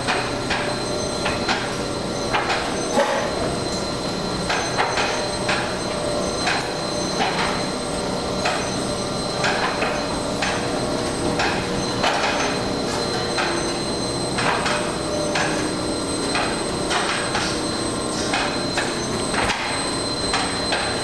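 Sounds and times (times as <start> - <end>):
dome drive mechanical noise: 0.0 - 21.0.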